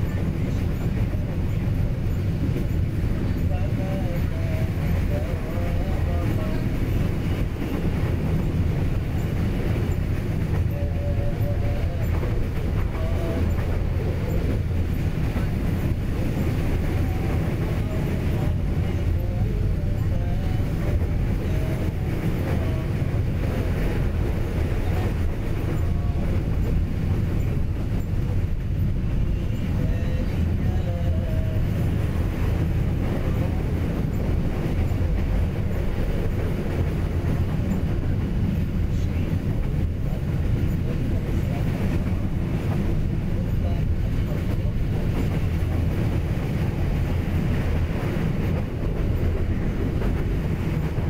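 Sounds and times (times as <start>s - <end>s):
train wheels rumbling: 0.0s - 51.0s.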